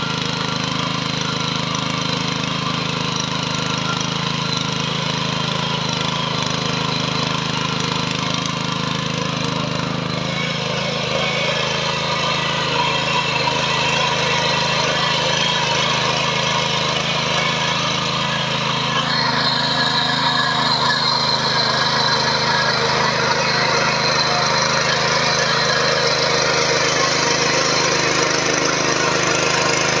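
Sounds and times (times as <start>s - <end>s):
rotary tines churning soil: 0.0s - 30.0s
small engine running under load: 0.0s - 30.0s.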